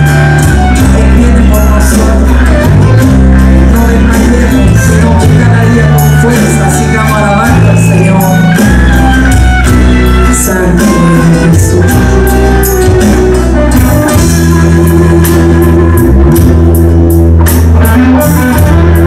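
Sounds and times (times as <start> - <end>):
bass notes: 0.0 - 19.0
electric guitar: 0.0 - 19.0
keyboard: 0.0 - 19.0.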